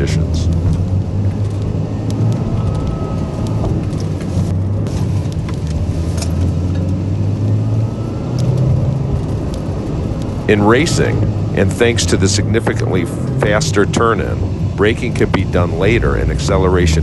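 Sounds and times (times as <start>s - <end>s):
car engine and road hum: 0.0s - 17.0s.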